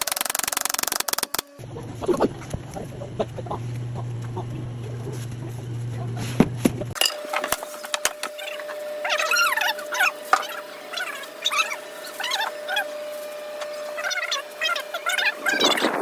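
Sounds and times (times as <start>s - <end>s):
steady low hum: 1.4s - 16.0s.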